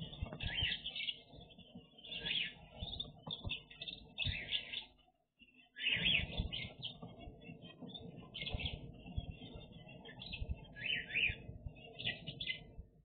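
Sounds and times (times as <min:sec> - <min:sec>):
finches chirping: 0:00.0 - 0:12.8.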